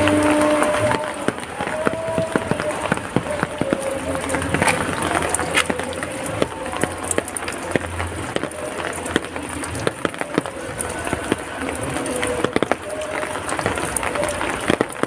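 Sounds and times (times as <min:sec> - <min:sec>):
heavy rain: 0:00.0 - 0:15.0
raindrops striking surfaces: 0:00.0 - 0:15.0.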